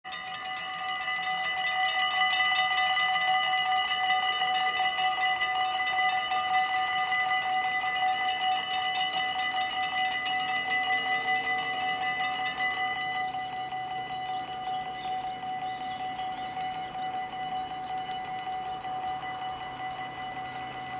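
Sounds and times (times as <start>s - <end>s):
level crossing bells ringing: 0.0s - 20.9s.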